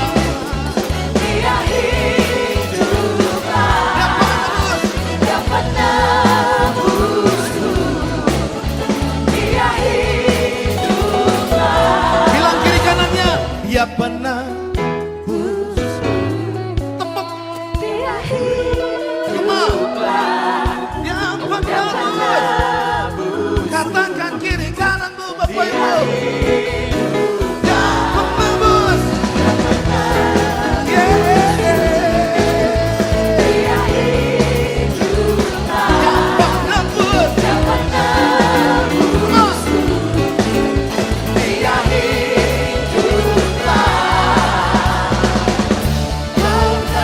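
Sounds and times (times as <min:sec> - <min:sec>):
steady drum beat: 0:00.0 - 0:14.2, 0:20.0 - 0:47.0
group singing worship song: 0:00.0 - 0:14.4, 0:15.2 - 0:16.6, 0:17.7 - 0:47.0
bass notes: 0:00.0 - 0:18.9, 0:26.0 - 0:47.0.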